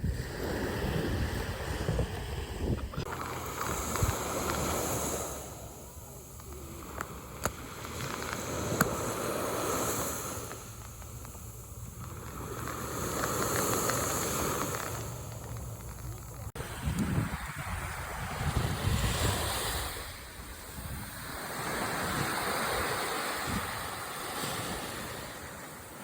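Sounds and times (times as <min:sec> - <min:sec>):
water rushing like surf: 0:00.0 - 0:26.0.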